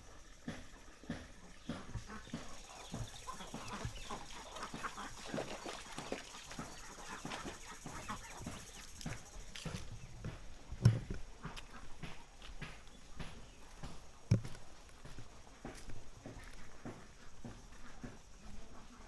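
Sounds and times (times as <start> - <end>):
chickens clucking: 0.0 - 19.0
footsteps of person walking: 0.1 - 19.0.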